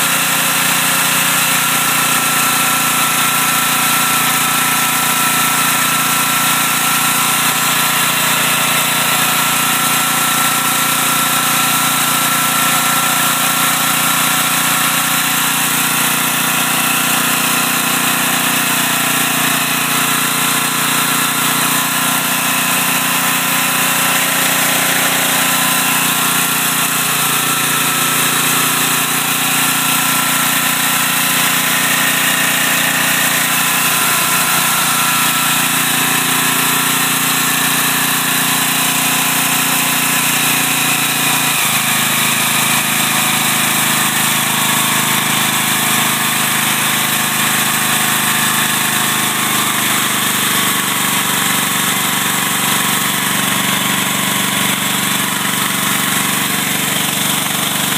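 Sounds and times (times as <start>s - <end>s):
generator engine running: 0.0s - 57.9s.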